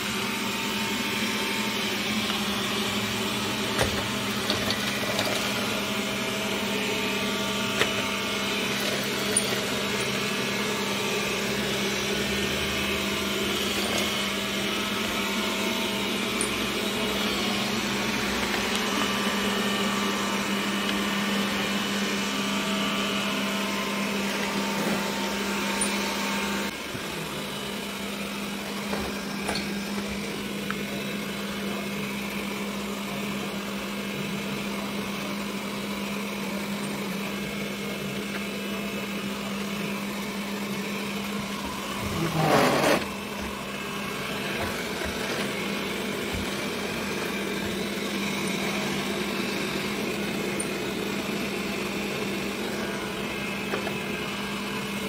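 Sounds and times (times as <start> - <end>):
robot vacuum whirring: 0.0 - 55.0.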